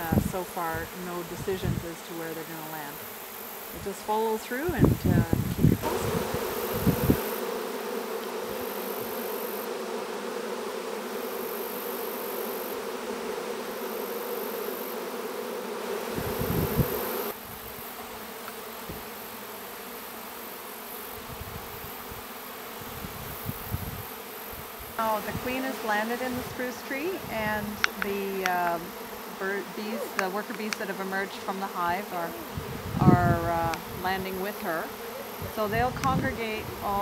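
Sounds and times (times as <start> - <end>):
bee swarm buzzing: 0.0 - 37.0.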